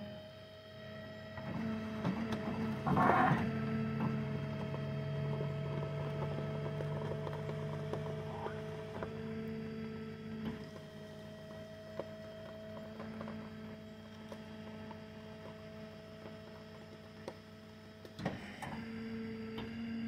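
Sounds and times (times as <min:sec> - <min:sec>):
motor humming: 0:00.0 - 0:20.0.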